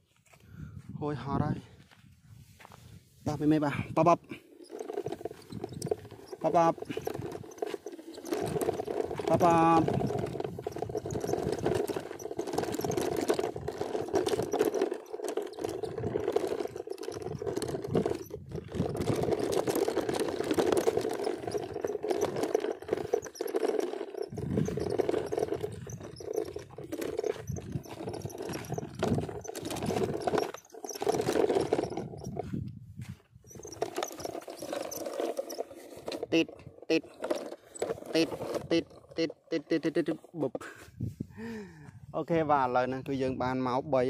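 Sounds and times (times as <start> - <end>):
plastic toy truck scraping dirt: 3.2 - 41.1
person making growling engine noise: 3.8 - 32.6, 33.6 - 41.8.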